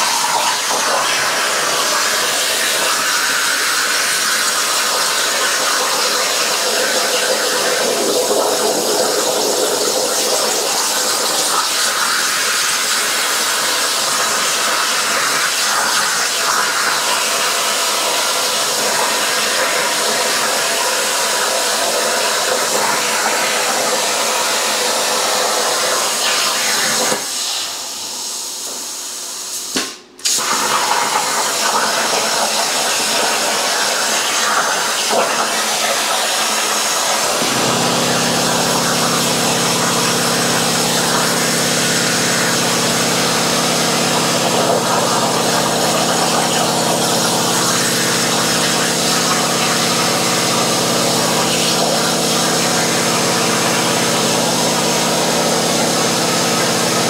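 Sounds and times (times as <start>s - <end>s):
plasma cutter hissing: 0.0s - 57.0s.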